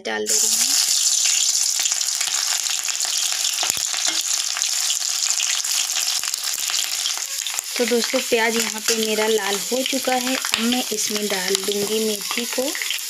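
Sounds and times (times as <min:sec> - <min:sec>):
onions sizzling in hot oil: 0:00.3 - 0:13.0
spoon scraping a pan: 0:02.4 - 0:13.0.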